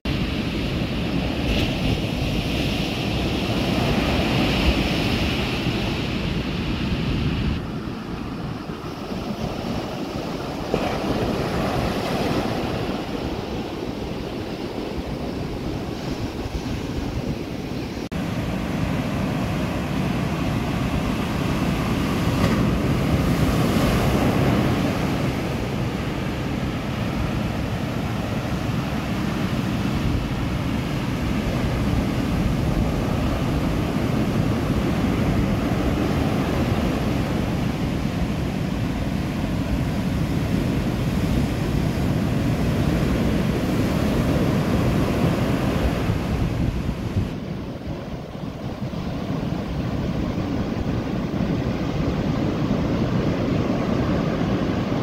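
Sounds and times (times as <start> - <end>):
ocean waves breaking on beach: 0.1 - 55.0
wind on microphone: 0.1 - 55.0.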